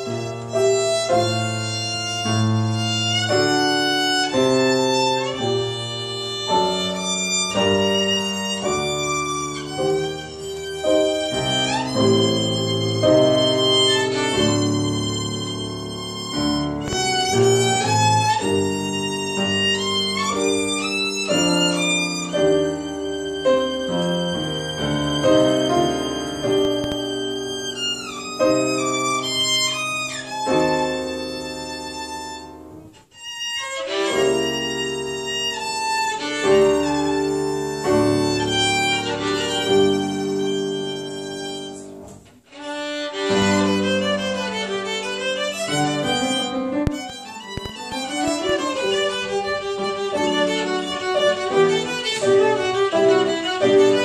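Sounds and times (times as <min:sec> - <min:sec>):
piano accompaniment: 0:00.0 - 0:54.0
solo violin: 0:00.0 - 0:54.0.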